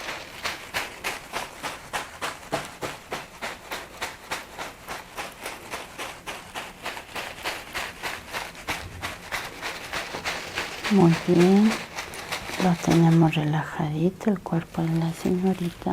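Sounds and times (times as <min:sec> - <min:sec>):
flowers swishing over body: 0:00.0 - 0:15.9.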